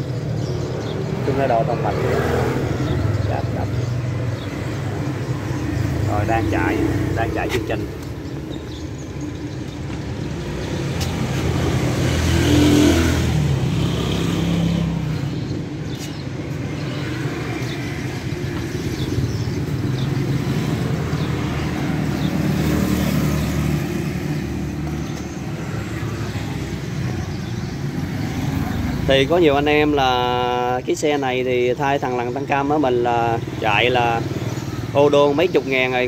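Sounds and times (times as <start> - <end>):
traffic passing on street: 0.0 - 36.0.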